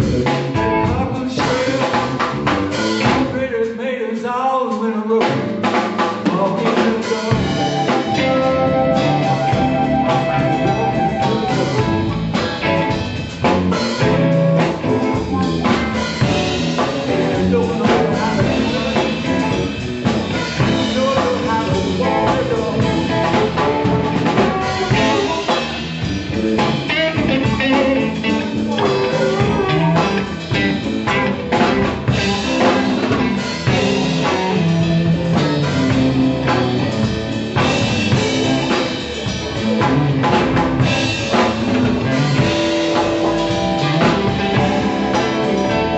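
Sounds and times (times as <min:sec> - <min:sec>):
electric guitars: 0:00.0 - 0:03.5, 0:05.1 - 0:45.9
drum kit: 0:00.0 - 0:03.7, 0:04.8 - 0:45.9
keyboard: 0:05.2 - 0:45.9.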